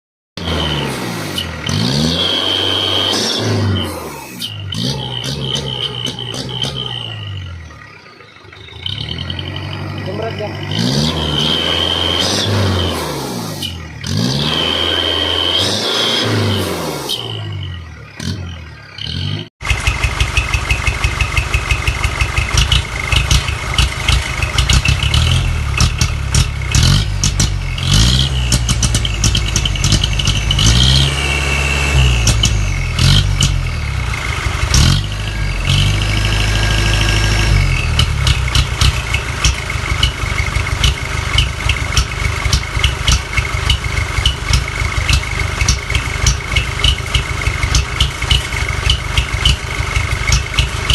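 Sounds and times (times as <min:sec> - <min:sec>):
truck engine idling and revving: 0:00.4 - 0:50.9.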